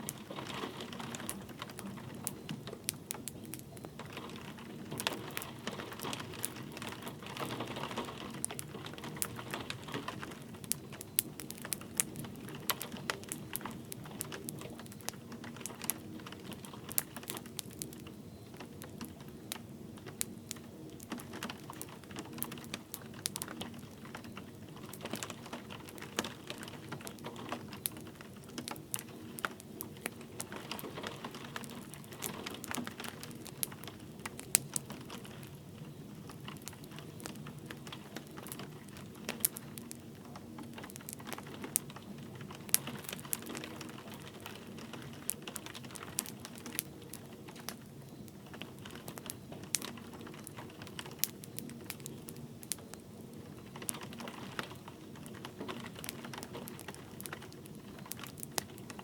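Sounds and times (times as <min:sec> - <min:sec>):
rain falling: 0:00.0 - 0:59.0
wood fire crackling: 0:00.0 - 0:59.0.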